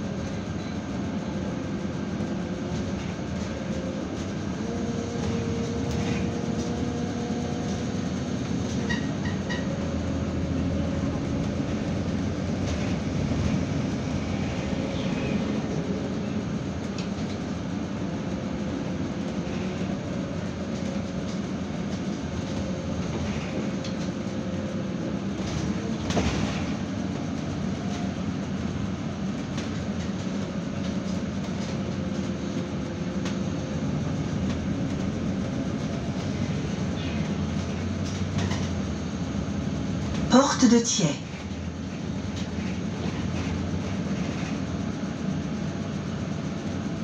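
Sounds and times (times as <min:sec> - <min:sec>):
bus engine drone: 0:00.0 - 0:47.0
road noise: 0:02.3 - 0:46.1.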